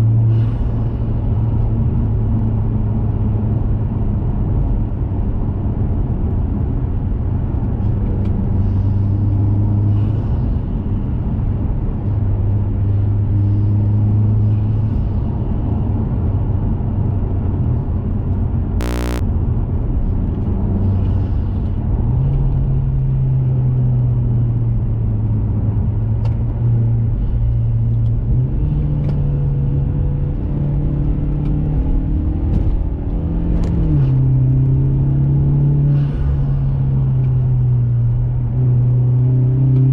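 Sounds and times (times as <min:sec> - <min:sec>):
car engine cruising: 0:00.0 - 0:39.9
road rumble: 0:00.0 - 0:39.9.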